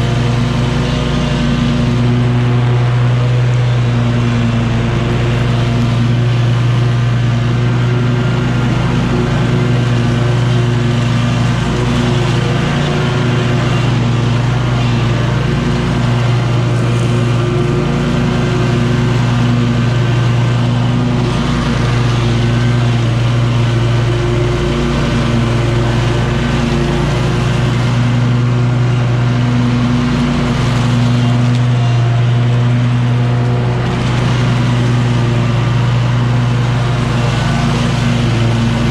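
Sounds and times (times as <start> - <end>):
mower engine humming: 0.0 - 38.9.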